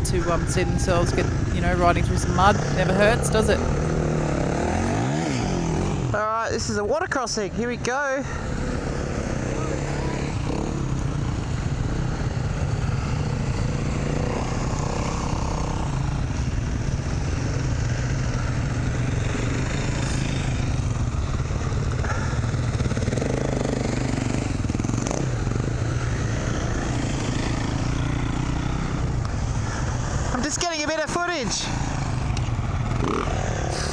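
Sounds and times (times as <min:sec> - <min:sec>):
dirt bike engine running: 0:00.0 - 0:33.9.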